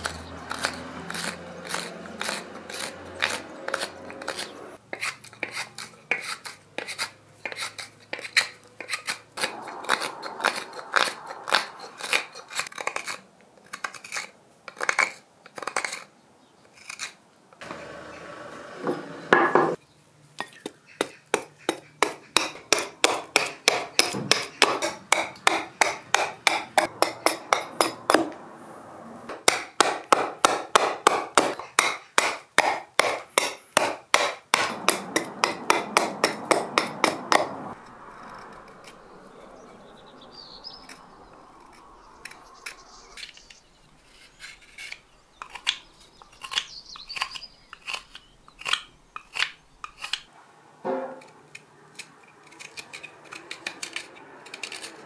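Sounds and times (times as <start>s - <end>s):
knife carving wood: 0.0s - 17.2s, 20.4s - 28.3s, 29.4s - 37.5s, 41.6s - 50.3s, 51.2s - 55.0s.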